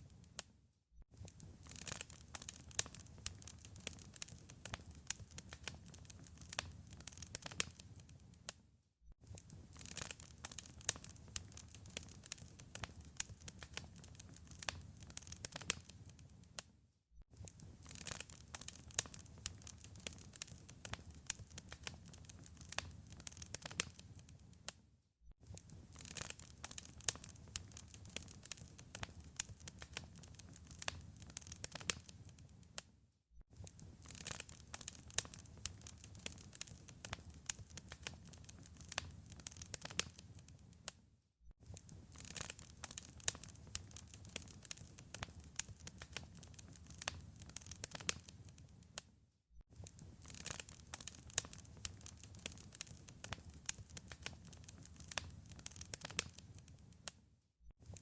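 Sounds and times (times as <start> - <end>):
wood fire crackling: 1.2 - 8.6, 9.2 - 16.6, 17.4 - 24.8, 25.4 - 32.8, 33.6 - 41.0, 41.6 - 49.0, 49.8 - 57.2.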